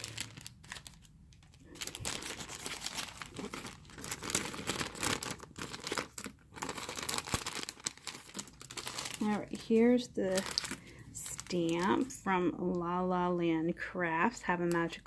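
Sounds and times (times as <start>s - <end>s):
crinkly packaging rustling: 0.0s - 13.1s.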